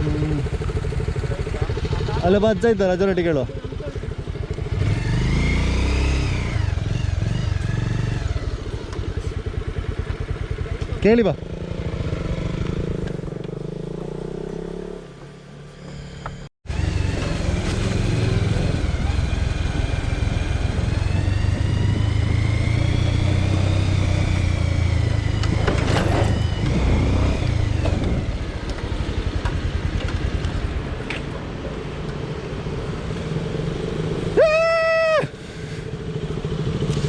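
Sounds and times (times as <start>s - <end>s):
motorcycle engine running: 0.0s - 31.7s, 35.4s - 37.0s.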